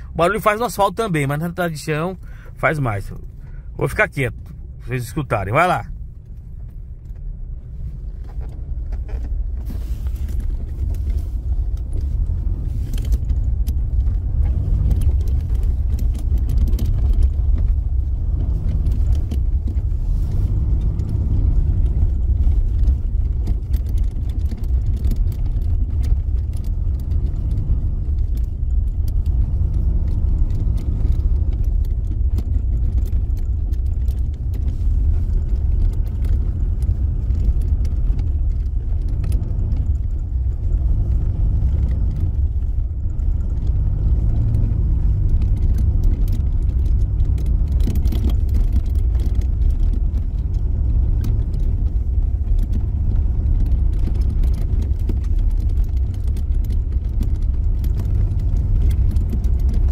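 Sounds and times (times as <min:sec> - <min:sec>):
low road rumble: 0:00.0 - 0:59.9.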